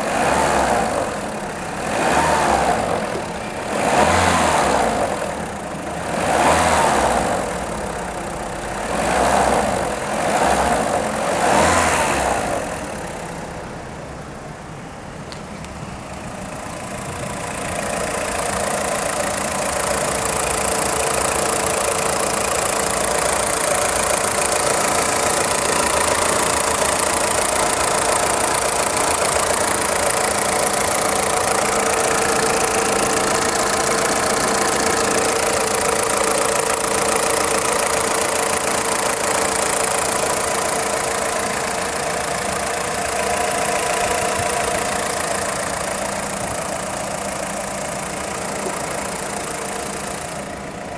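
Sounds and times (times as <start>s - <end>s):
car engine revving: 0.0s - 14.0s, 15.4s - 50.9s
car engine idling: 0.0s - 50.9s
engine clacking: 0.0s - 50.9s.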